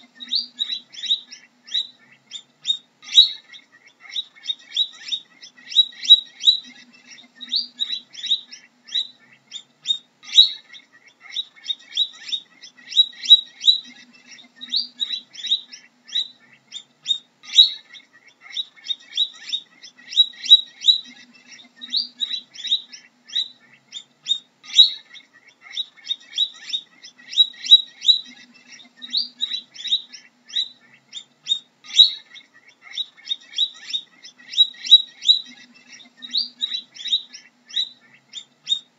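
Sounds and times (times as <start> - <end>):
guinea pig squeaking: 0.0 - 3.5, 4.1 - 10.7, 11.3 - 38.9.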